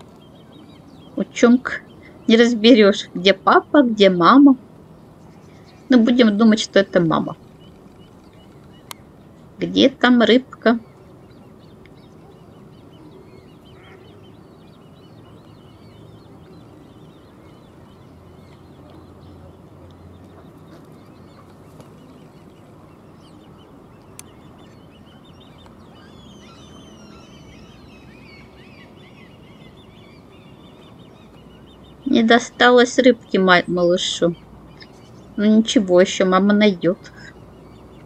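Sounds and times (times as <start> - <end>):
bird chick piping calls: 0.0 - 38.0
low background noise: 0.0 - 38.0.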